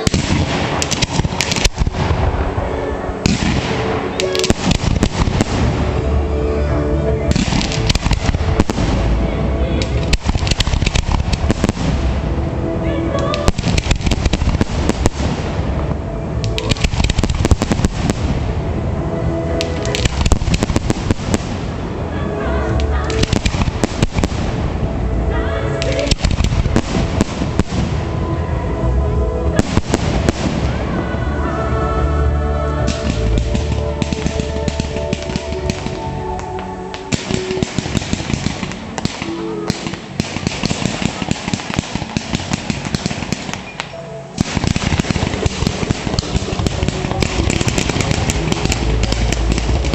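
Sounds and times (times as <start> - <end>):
fireworks bangs and crackling: 0.0 - 6.2, 7.2 - 28.5, 29.4 - 31.4, 32.0 - 49.9
music: 0.0 - 49.9.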